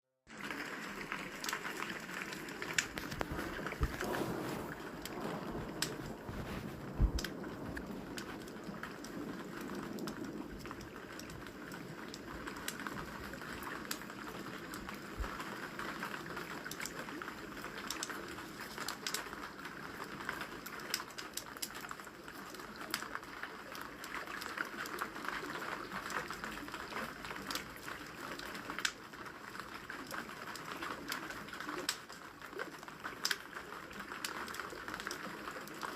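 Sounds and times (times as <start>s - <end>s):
rain falling: 0.3s - 35.9s
wood fire crackling: 0.3s - 35.9s.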